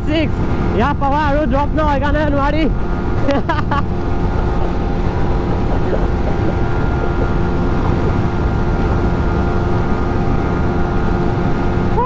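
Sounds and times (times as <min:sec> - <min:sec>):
motorcycle engine cruising: 0:00.0 - 0:12.0
wind rush over microphone: 0:00.0 - 0:12.0.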